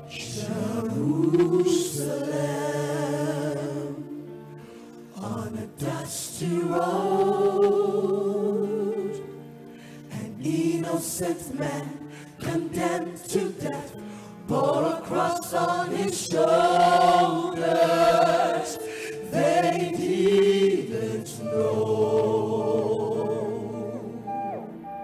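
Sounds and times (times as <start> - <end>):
gospel choir singing: 0.0 - 25.0.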